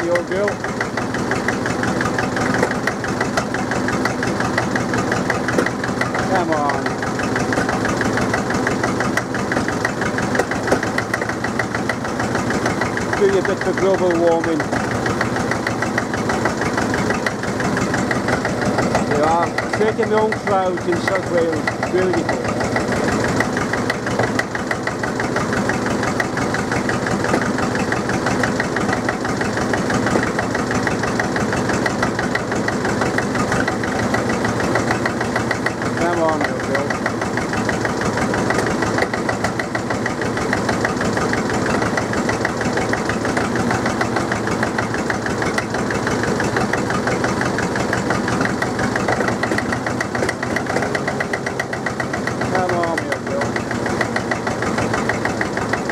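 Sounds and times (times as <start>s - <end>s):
diesel engine clattering: 0.0s - 55.9s.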